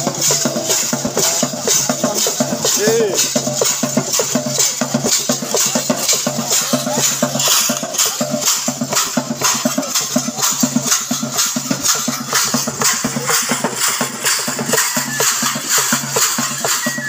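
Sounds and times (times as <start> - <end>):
rattles and drums rhythm: 0.0 - 17.0.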